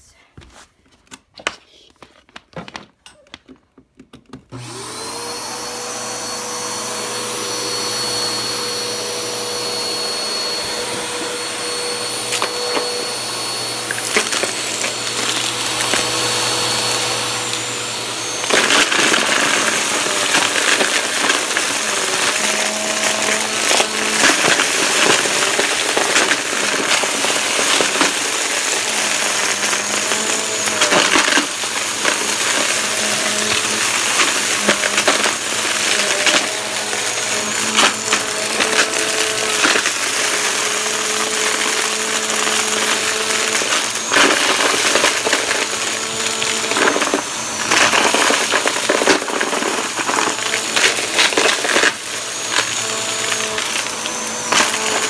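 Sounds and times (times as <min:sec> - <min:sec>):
debris rattling in vacuum: 0:04.5 - 0:55.0
vacuum cleaner motor humming: 0:04.5 - 0:55.0.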